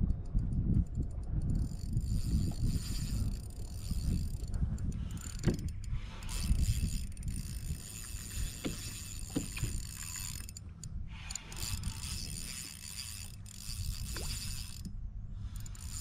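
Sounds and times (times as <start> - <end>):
fishing reel whining: 0.0 - 16.0
reel gears clicking: 0.0 - 16.0
wind rumble on microphone: 0.0 - 16.0.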